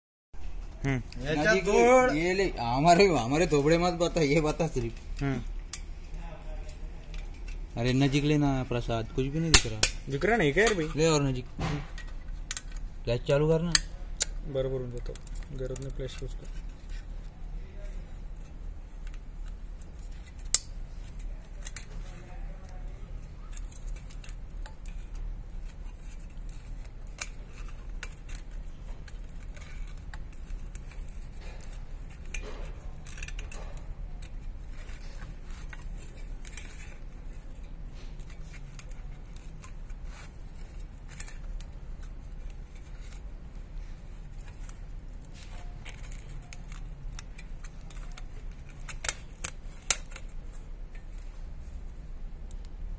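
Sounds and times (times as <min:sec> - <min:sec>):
low steady hum: 0:00.4 - 0:52.9.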